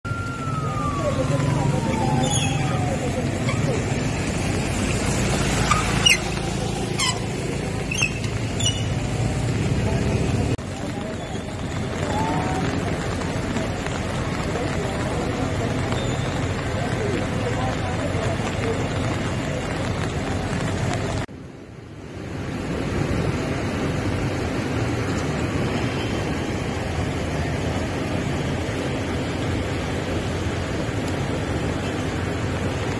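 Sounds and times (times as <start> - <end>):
low outdoor rumble: 0.0 - 32.9
rushing floodwater: 0.1 - 32.9.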